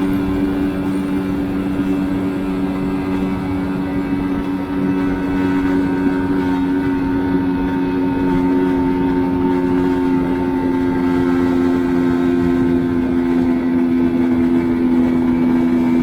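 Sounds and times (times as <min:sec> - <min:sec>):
motorbike engine buzzing: 0:00.0 - 0:16.0.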